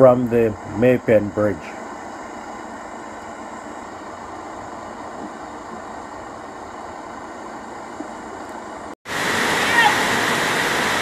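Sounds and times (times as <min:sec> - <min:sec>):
river water roaring: 0:00.0 - 0:11.0.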